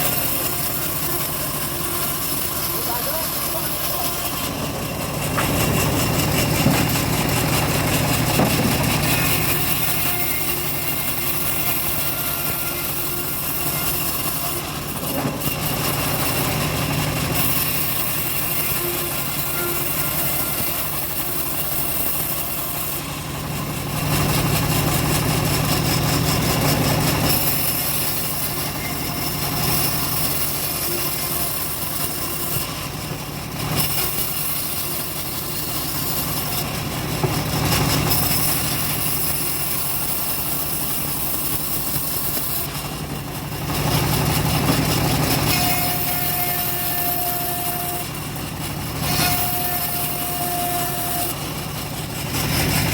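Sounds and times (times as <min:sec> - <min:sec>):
engine-driven bandsaw sawing wood: 0:00.0 - 0:52.9.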